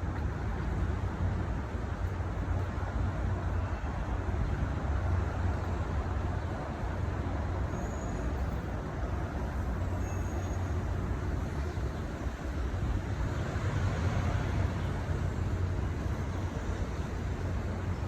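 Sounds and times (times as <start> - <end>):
distant city traffic rumble: 0.0 - 18.0.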